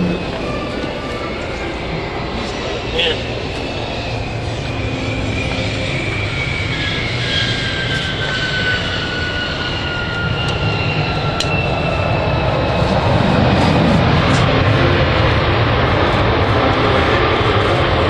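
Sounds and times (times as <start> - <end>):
propeller airplane engine drone: 0.0 - 18.0.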